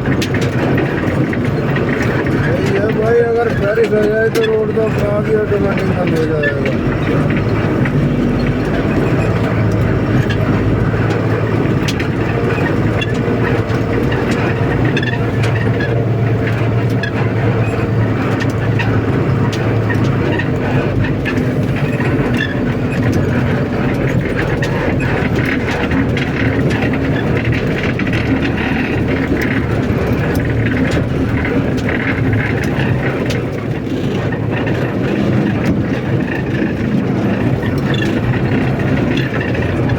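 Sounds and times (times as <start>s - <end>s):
rattles and knocks: 0.0s - 39.9s
truck engine running: 0.0s - 39.9s.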